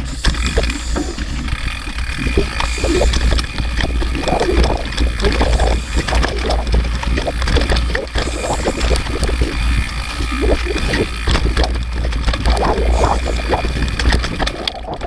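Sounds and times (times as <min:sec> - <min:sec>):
bike rattling and knocking: 0:00.0 - 0:15.0
wind rumble on microphone: 0:00.0 - 0:15.0.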